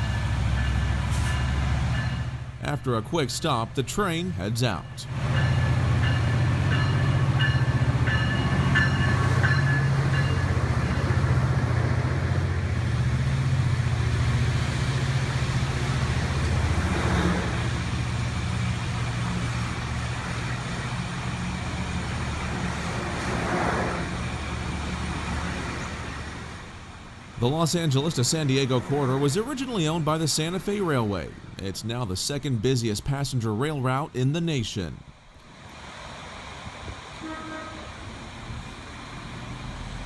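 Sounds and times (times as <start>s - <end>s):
diesel locomotive engine drone: 0.0s - 40.0s.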